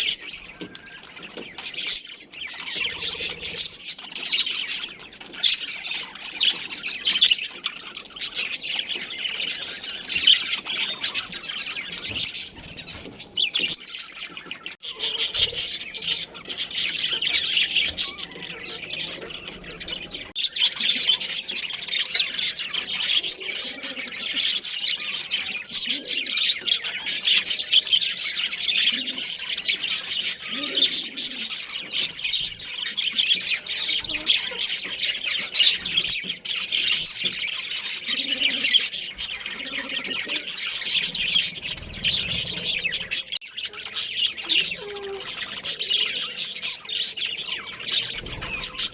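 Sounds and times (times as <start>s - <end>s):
budgerigars chattering and chirping: 0.0s - 48.9s.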